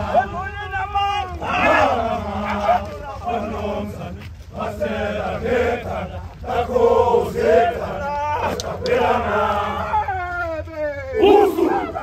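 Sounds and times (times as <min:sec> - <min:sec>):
men chanting and singing: 0:00.0 - 0:12.0.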